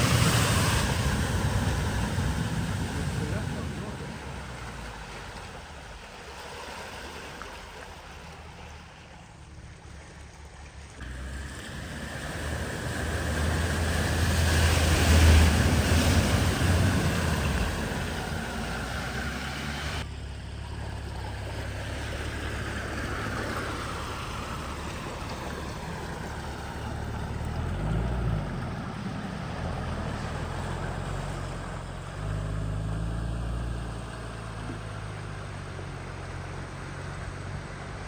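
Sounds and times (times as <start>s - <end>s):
vehicle engine running: 0.0s - 6.2s, 7.7s - 38.0s.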